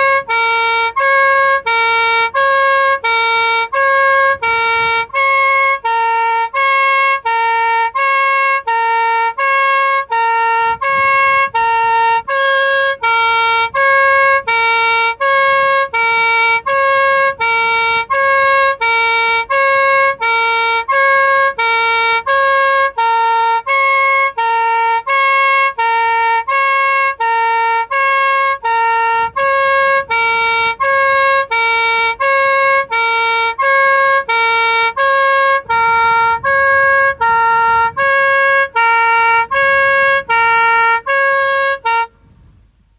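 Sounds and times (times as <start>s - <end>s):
two-tone police siren: 0.0s - 42.1s.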